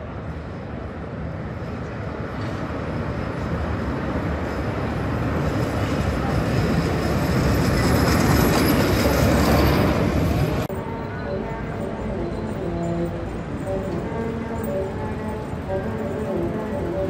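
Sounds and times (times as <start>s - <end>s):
tram passing on rails: 0.0s - 17.0s.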